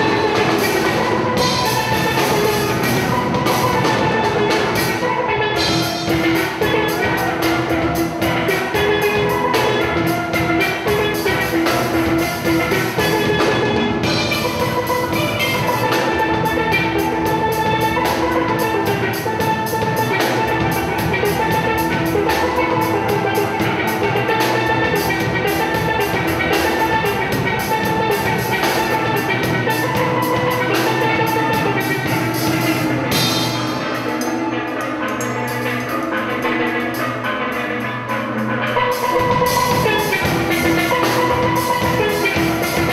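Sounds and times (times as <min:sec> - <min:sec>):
drum kit beat: 0:00.0 - 0:42.9
steel pans playing melody: 0:00.0 - 0:42.9.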